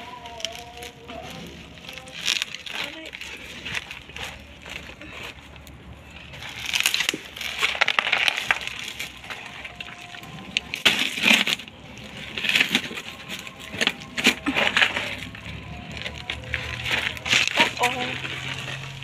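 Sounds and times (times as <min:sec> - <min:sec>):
hands digging through loose soil: 0:00.0 - 0:19.0.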